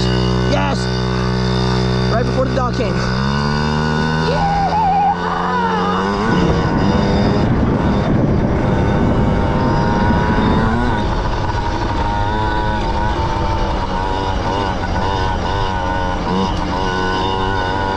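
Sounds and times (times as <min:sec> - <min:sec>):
small motorbike engine revving: 0:00.0 - 0:17.9.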